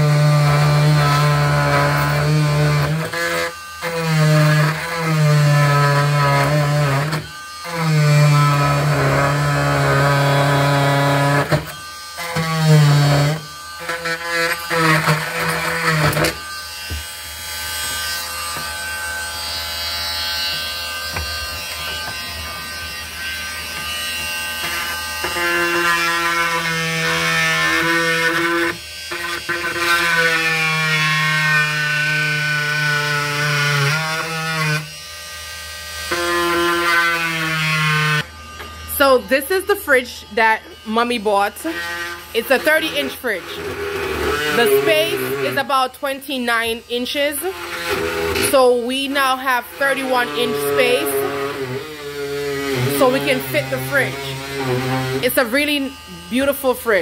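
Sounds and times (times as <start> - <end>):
oscillating multi-tool buzzing: 0.0 - 57.0.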